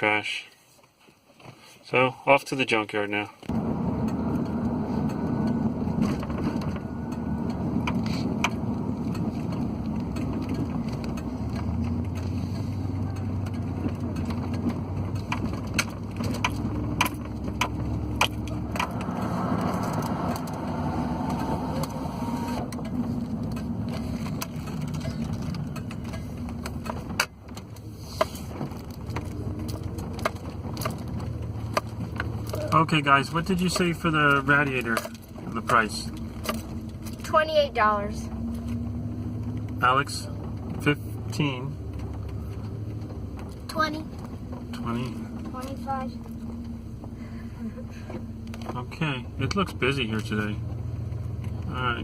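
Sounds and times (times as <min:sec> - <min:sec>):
engine and road rumble: 0:00.0 - 0:52.0
sharp clicks and knocks: 0:03.4 - 0:37.4, 0:38.3 - 0:47.1.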